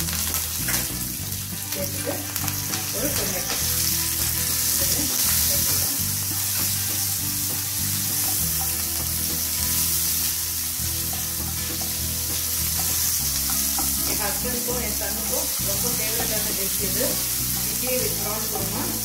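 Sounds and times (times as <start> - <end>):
tomato sizzling in oil: 0.0 - 19.0.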